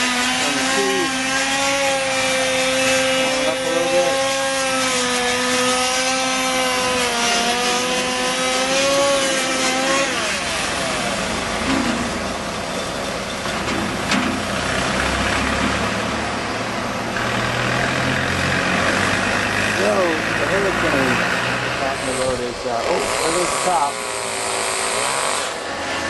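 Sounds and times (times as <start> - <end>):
wood chipper engine running: 0.0 - 26.0.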